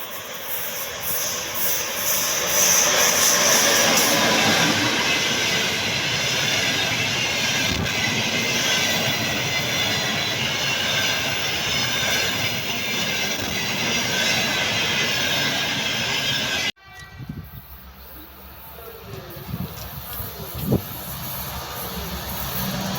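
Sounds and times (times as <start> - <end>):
train wheels on rails: 0.0 - 22.9.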